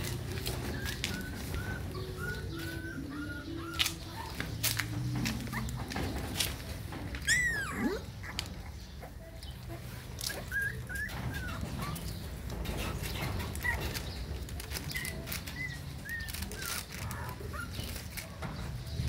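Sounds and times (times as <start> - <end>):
puppies rustling on cloth: 0.0 - 19.0
puppies whimpering and squeaking: 0.0 - 19.0.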